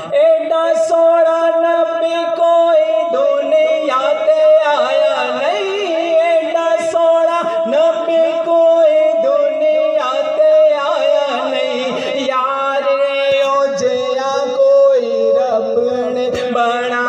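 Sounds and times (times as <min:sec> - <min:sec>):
man singing devotional song: 0:00.0 - 0:17.0.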